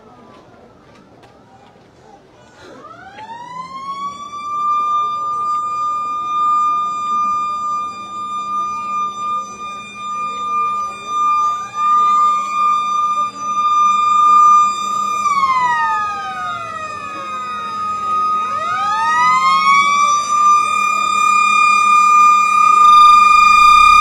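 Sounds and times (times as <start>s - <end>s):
siren wailing: 2.7s - 24.0s.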